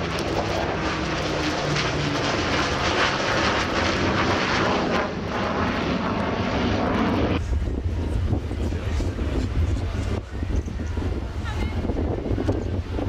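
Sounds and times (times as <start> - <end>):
jet engine noise: 0.0 - 13.0
propeller aircraft engines droning: 0.0 - 13.0.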